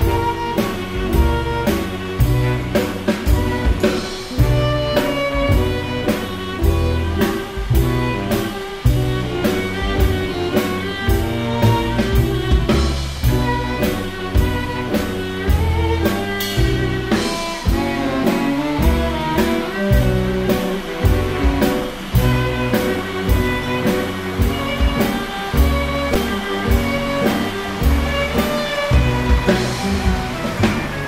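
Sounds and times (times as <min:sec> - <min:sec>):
held instrumental notes: 0:00.0 - 0:31.0
steady drum beat: 0:00.0 - 0:31.0.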